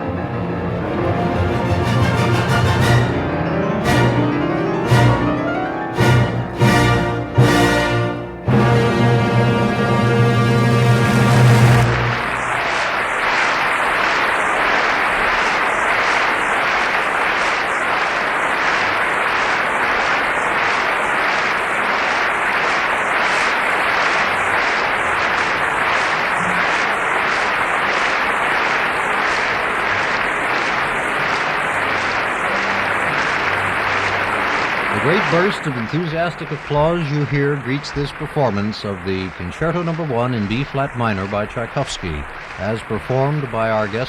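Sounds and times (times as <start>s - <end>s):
audience applauding: 0.0s - 44.0s.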